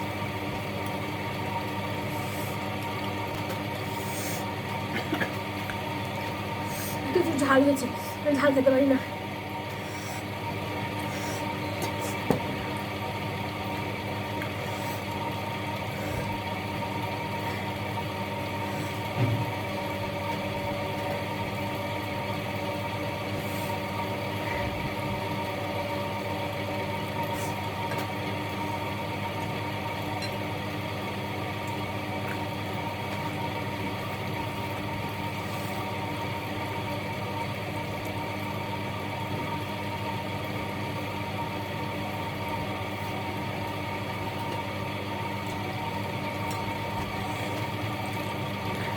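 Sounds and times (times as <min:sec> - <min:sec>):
mechanical hum: 0:00.0 - 0:48.9.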